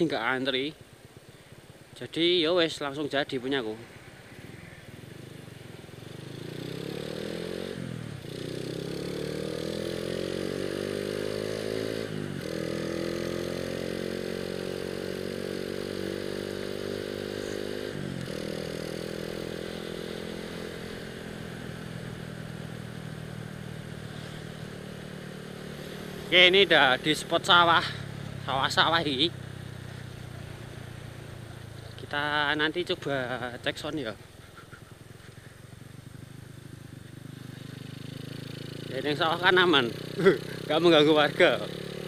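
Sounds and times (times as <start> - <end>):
motorcycle engine revving through gears: 0.0 - 42.0.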